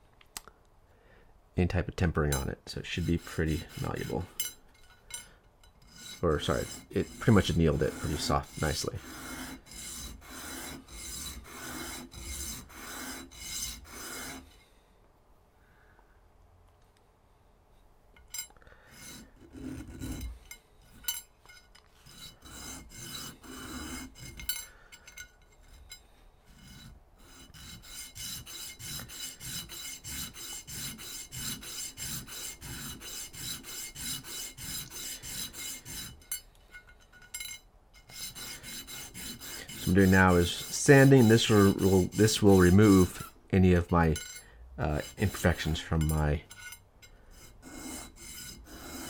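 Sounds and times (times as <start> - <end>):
metal ring being sanded: 2.9 - 5.2, 5.8 - 14.6, 18.9 - 36.4, 37.2 - 49.0.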